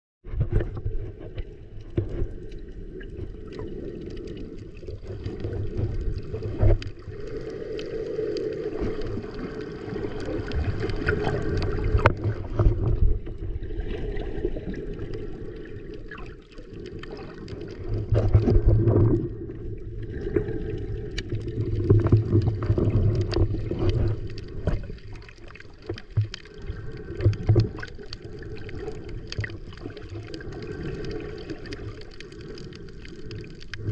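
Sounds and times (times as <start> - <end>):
muffled water gurgling and sloshing: 0.2 - 33.9
underwater rumbling: 0.2 - 33.9.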